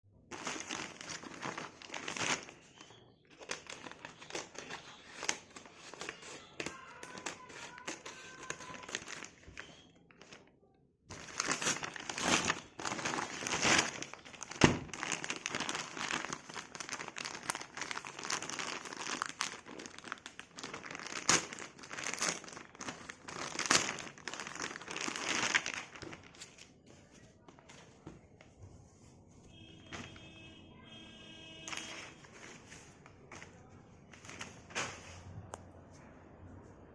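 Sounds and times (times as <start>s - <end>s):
plastic packaging crinkling: 0.3s - 10.5s, 11.1s - 28.0s, 31.6s - 35.3s.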